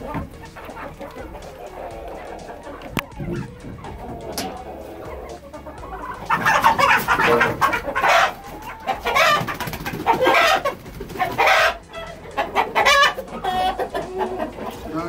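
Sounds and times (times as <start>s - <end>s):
chickens squawking and clucking: 0.0s - 15.0s.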